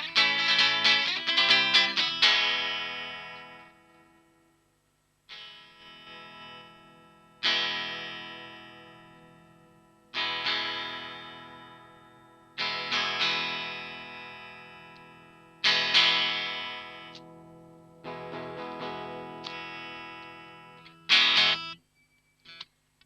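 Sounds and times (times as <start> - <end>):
electric guitar chords ringing: 0.0 - 4.4, 5.3 - 21.8.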